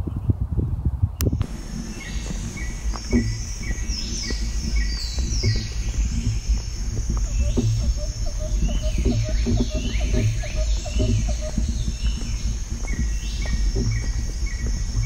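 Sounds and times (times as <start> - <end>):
wind rumble on microphone: 0.0 - 15.0
birds singing: 1.2 - 15.0
footsteps on earth path: 1.3 - 15.0.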